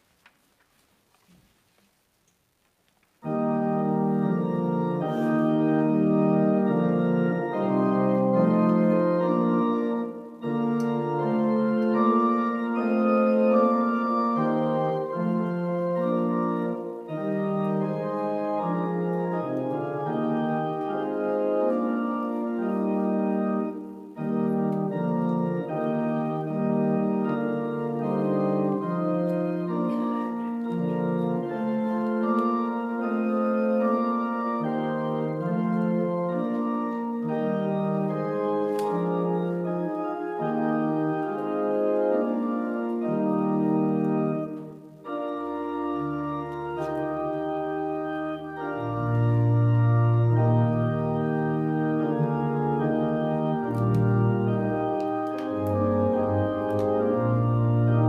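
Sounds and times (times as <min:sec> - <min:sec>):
church organ holding chords: 0:03.2 - 0:58.0.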